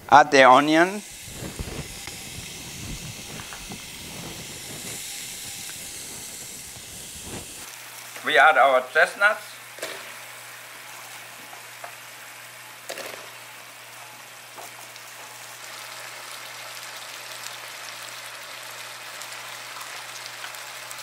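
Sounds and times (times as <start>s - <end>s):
onion sizzling in a pan: 0.4s - 21.0s.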